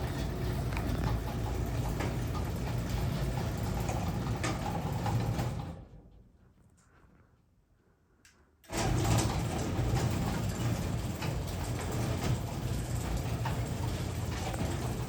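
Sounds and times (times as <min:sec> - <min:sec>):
garage door opener humming: 0:00.0 - 0:06.2, 0:08.6 - 0:15.0.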